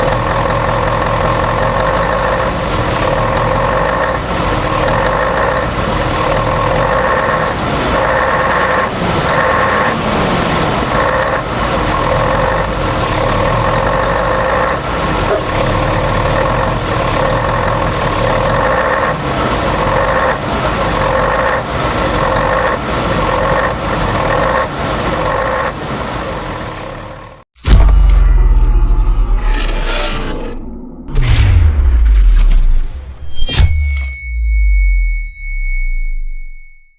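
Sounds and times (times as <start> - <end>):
diesel coach engine running: 0.0 - 33.0.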